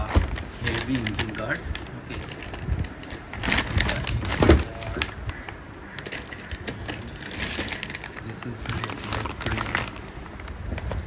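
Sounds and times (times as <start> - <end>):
packaging rustling and clicking: 0.0 - 11.0.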